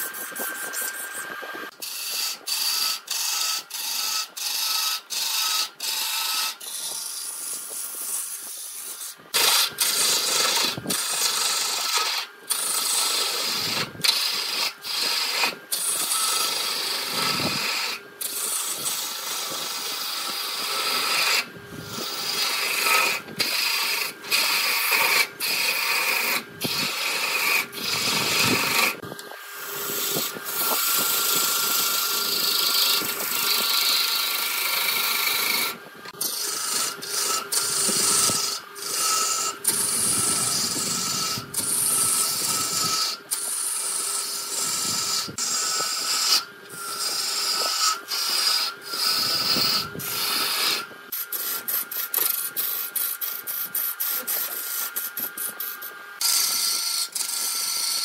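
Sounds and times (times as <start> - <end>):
lathe tool scraping wood: 0.0 - 58.0.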